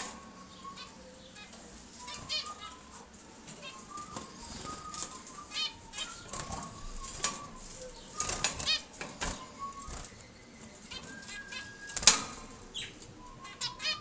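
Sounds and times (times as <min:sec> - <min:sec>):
small birds chirping: 0:00.0 - 0:14.0
whistled bird notes: 0:00.0 - 0:14.0
wings fluttering: 0:01.4 - 0:14.0.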